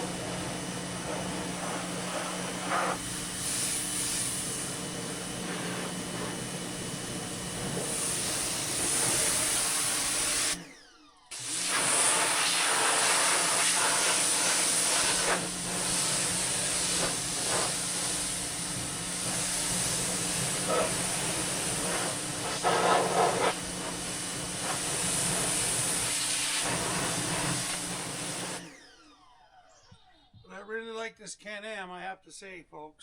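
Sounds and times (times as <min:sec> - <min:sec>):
water jet hissing: 0:00.0 - 0:10.6, 0:11.4 - 0:28.6
pressure washer motor hum: 0:00.0 - 0:28.7.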